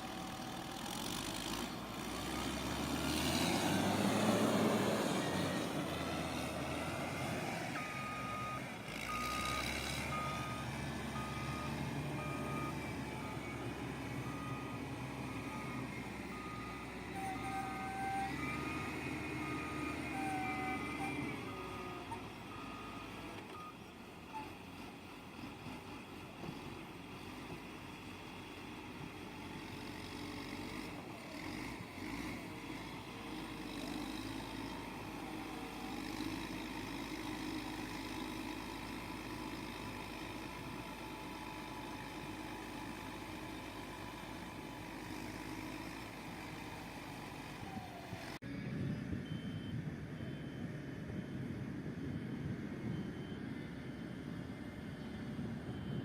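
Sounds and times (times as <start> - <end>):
heavy construction machinery running: 0.0 - 56.0.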